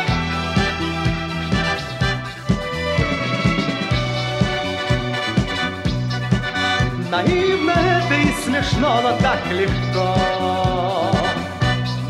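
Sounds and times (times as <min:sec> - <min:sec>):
pop band instrumental: 0:00.0 - 0:12.0.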